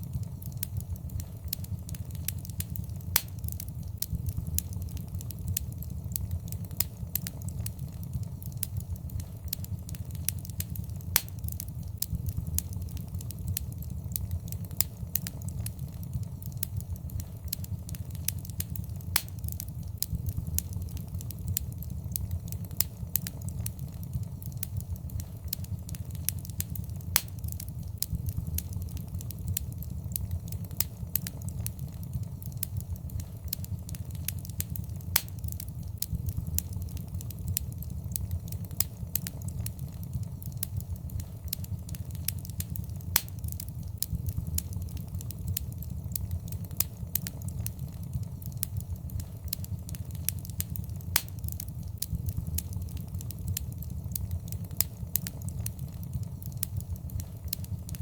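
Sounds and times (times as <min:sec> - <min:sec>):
fire snapping: 0:00.0 - 0:58.0
wood fire crackling: 0:00.0 - 0:58.0.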